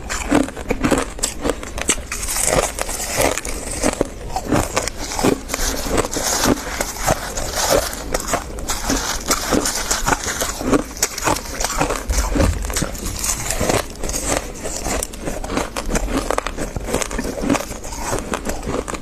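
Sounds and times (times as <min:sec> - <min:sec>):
chewing crunchy frost: 0:00.0 - 0:19.0.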